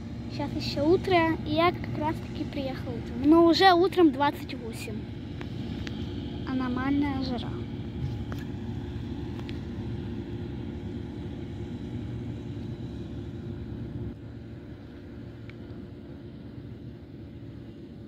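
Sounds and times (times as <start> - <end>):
distant heavy diesel engines: 0.0 - 18.0.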